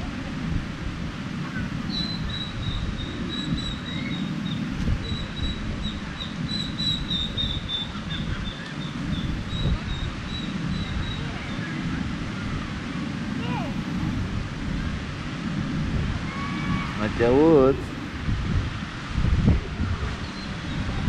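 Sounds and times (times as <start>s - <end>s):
surf rumble: 0.0s - 21.0s
wind: 0.0s - 21.0s.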